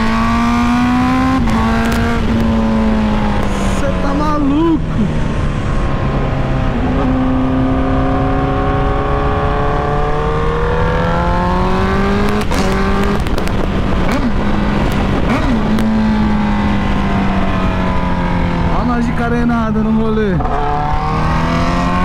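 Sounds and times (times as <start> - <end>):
wind rush on microphone: 0.0 - 19.5
motorcycle engine running: 0.0 - 22.0.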